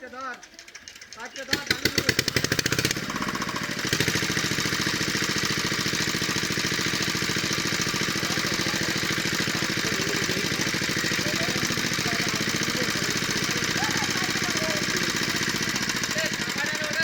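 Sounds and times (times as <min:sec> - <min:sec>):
small engine driving water pump: 0:00.0 - 0:17.0.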